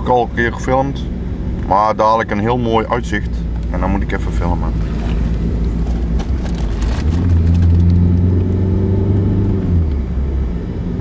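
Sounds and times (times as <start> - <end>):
car interior road rumble: 0.0 - 11.0
deep engine drone: 0.0 - 11.0.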